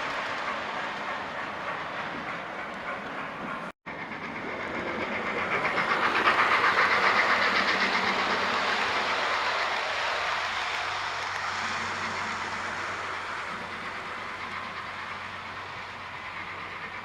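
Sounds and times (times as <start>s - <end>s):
model train clickety-clack: 0.0s - 17.0s.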